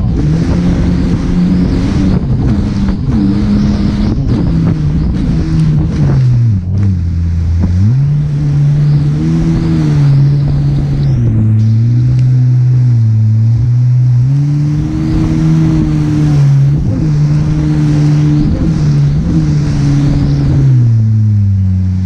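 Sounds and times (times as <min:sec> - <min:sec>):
watercraft engine running hard: 0:00.0 - 0:22.0.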